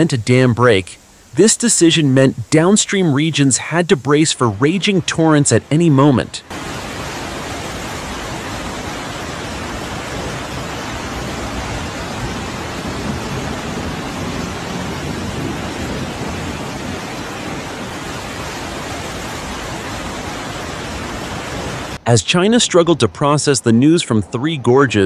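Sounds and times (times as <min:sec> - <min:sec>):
water rushing: 0:00.0 - 0:25.0.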